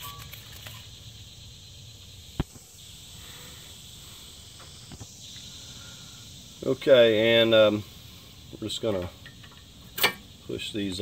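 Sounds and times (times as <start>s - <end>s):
high outdoor hiss: 0.0s - 11.0s.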